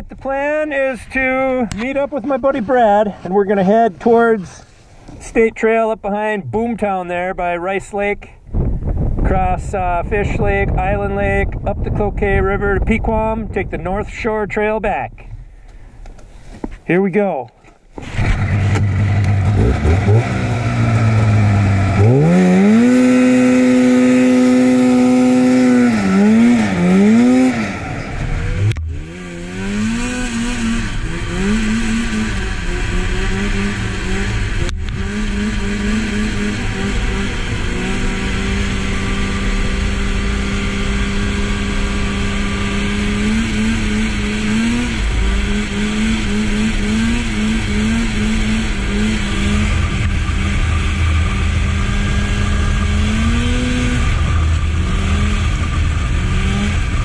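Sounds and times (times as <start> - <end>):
snowmobile engine revving: 0.4 - 7.4, 18.0 - 57.0.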